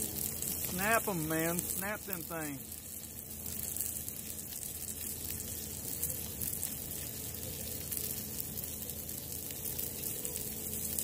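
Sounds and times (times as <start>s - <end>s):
steaks sizzling on griddle: 0.0s - 11.0s.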